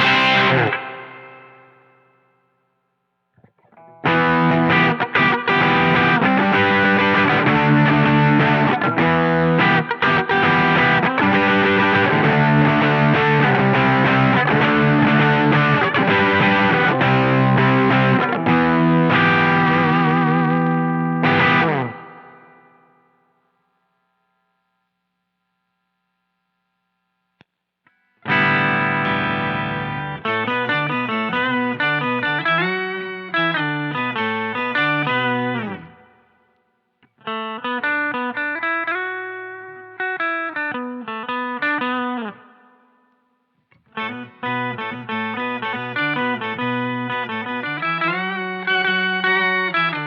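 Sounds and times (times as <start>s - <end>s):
electric guitar with overdrive: 0.0s - 2.4s, 3.4s - 23.2s, 27.9s - 50.0s.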